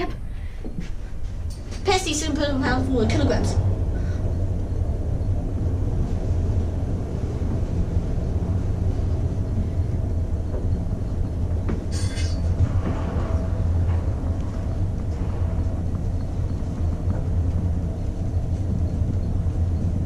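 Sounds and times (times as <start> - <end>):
lift car rumbling: 0.0 - 20.0.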